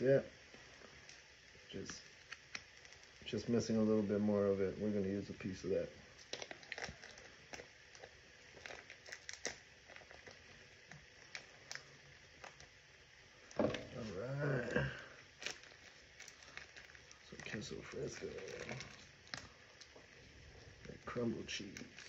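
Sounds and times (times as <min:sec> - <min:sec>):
plastic bag crinkling: 0:01.7 - 0:03.7, 0:05.4 - 0:12.8, 0:13.4 - 0:22.0.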